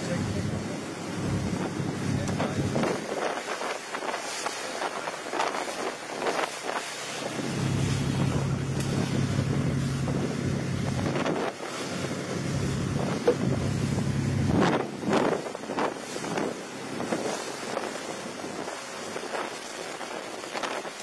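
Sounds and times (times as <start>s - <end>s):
boat engine humming: 0.0s - 4.0s, 5.1s - 21.0s
wind buffeting microphone: 0.0s - 21.0s.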